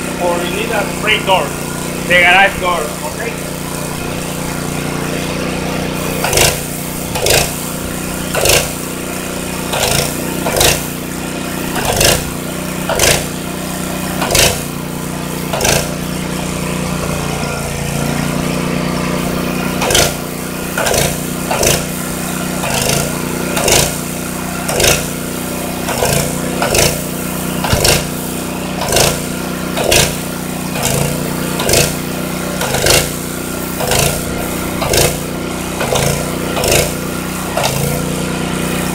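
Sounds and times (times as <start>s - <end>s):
paint sprayer motor hum: 0.0s - 38.9s
pump stroke pulses: 0.0s - 38.9s.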